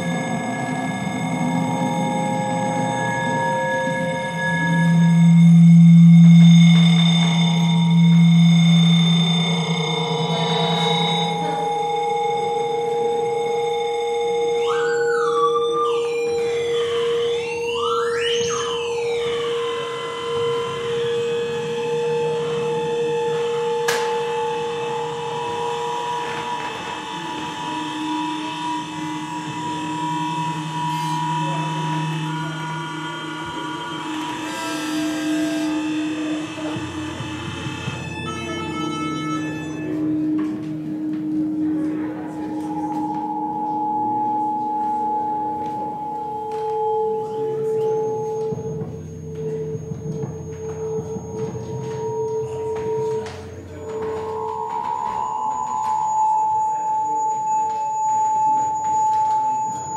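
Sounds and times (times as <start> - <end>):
howling feedback tones: 0.0 - 59.9.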